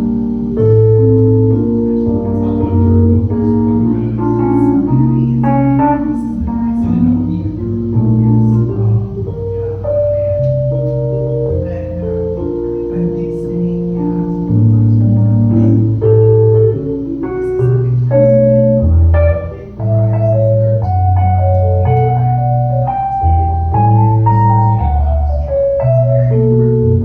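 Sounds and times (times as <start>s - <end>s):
solo jazz piano: 0.0s - 27.0s.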